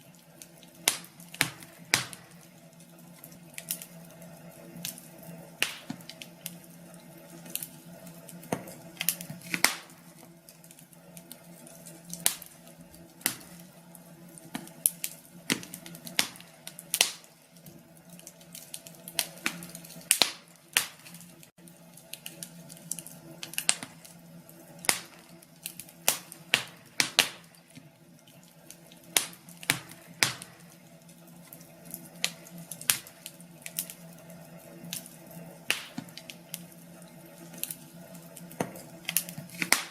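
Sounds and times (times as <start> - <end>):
low hiss of burning logs: 0.0 - 39.9
wood fire crackling and popping: 0.0 - 39.9.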